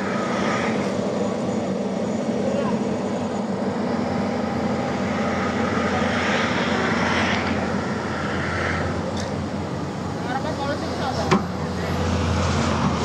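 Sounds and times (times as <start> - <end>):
heavy diesel engine drone: 0.0 - 13.0.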